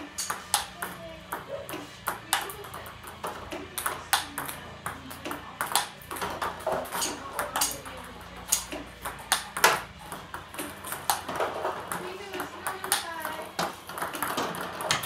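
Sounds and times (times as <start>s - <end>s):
ping pong ball clicks: 0.2s - 15.0s.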